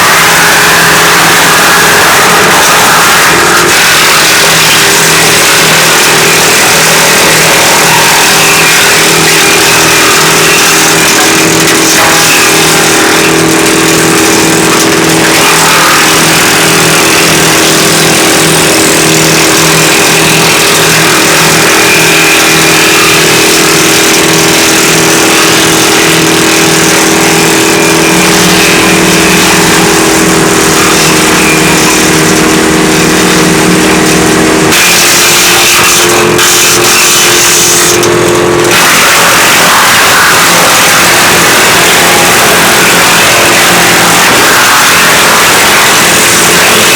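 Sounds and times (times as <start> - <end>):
wood chipper running: 0.0 - 46.9.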